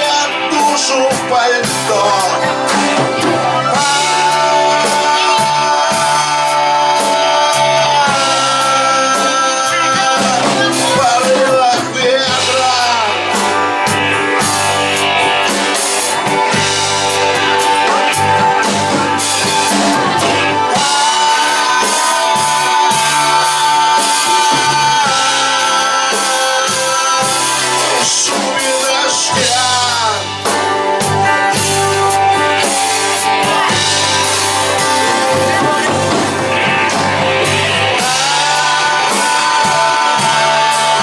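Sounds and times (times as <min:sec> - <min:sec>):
electric guitar melody: 0:00.0 - 0:41.0
rock band playing instrumental: 0:00.0 - 0:41.0.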